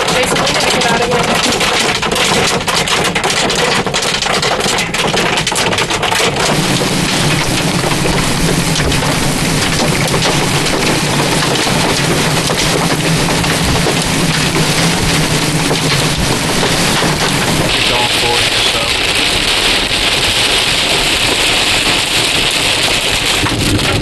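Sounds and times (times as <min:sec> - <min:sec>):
hail and rain on a car: 0:00.0 - 0:24.0.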